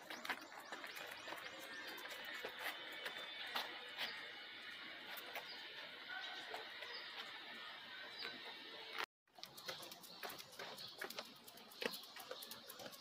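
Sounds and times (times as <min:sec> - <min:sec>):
bird chirps: 0:00.0 - 0:08.6, 0:09.4 - 0:13.0.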